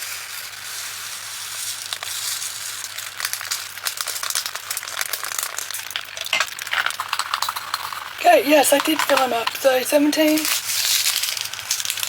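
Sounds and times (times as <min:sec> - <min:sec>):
plastic bag crinkling: 0:00.0 - 0:12.0
tiny beads pouring into container: 0:00.0 - 0:12.0.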